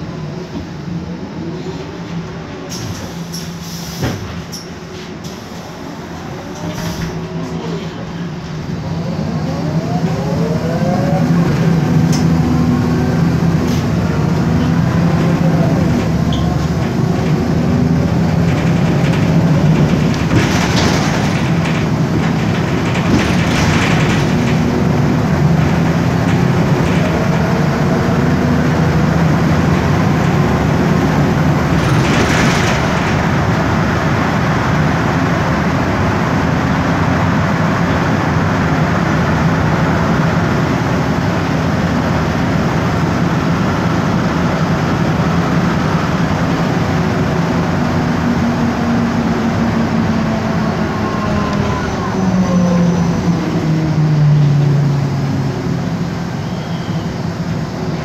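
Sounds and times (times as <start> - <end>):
bus engine and gearbox whine: 0.0 - 58.0.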